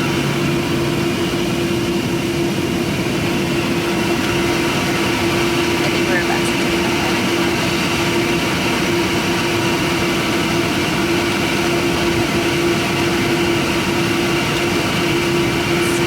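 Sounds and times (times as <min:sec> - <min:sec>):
airliner cabin hum: 0:00.0 - 0:16.0.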